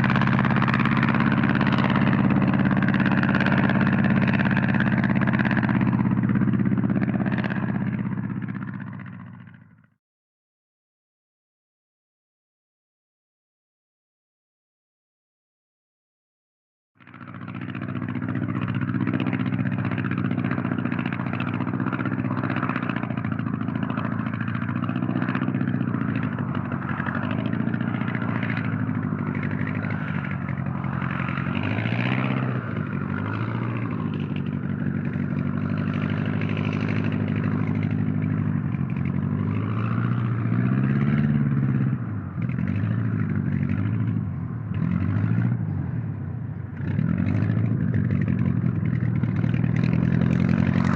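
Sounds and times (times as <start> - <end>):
propeller engine running: 0.0 - 9.9, 17.0 - 50.9.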